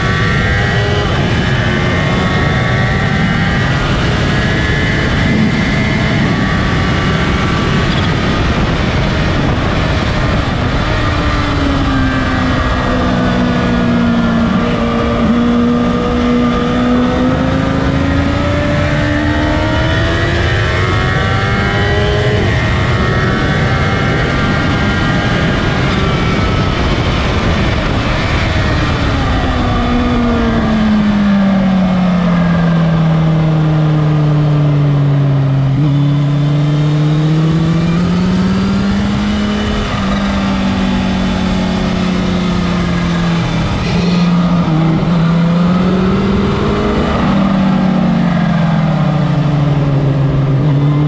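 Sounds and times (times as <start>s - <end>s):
motorcycle engine: 0.0s - 51.0s
wind noise: 0.0s - 51.0s.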